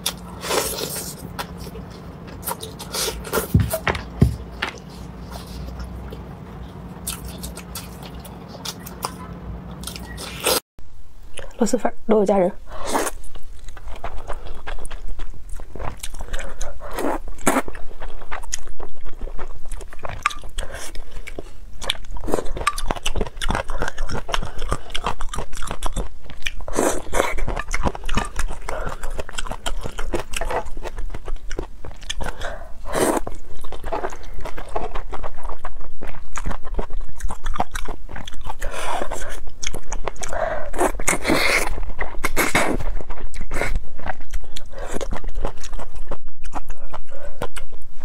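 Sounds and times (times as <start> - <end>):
chewing with mouth smacks: 4.7 - 10.6, 13.2 - 47.9.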